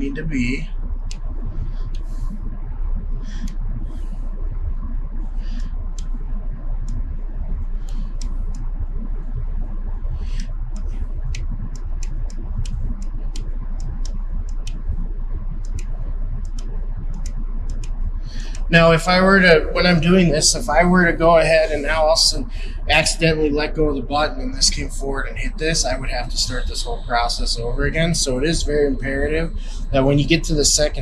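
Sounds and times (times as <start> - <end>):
light clicks and ticks: 0.2 - 31.0.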